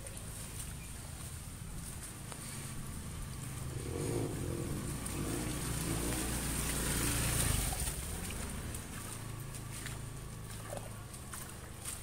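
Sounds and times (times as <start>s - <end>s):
motor scooter passing through water: 1.4s - 12.0s.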